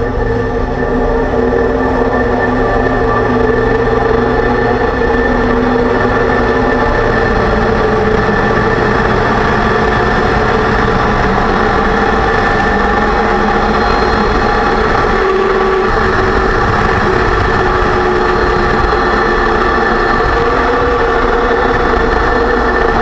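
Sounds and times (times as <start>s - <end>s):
drivetrain and road noise: 0.0s - 23.0s
whine tones: 0.0s - 23.0s.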